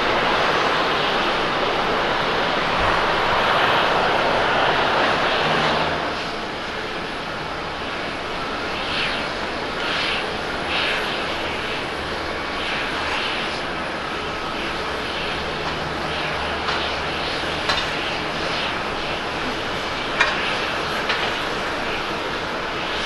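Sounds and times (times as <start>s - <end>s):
jet engine at takeoff power: 0.0s - 23.0s
jet engines on approach: 0.0s - 23.0s.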